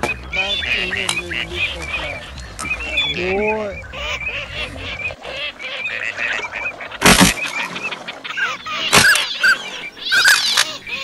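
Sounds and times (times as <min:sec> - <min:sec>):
ducks calling: 0:00.0 - 0:11.0.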